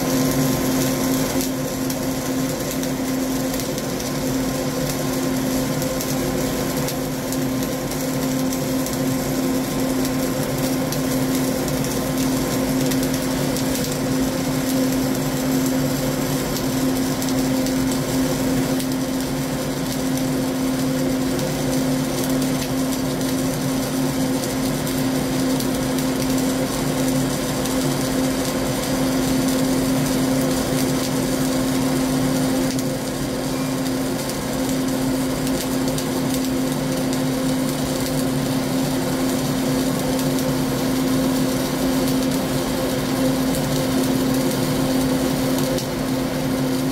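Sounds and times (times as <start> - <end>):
steady hum: 0.0 - 46.9
welding arc crackling: 0.0 - 46.9.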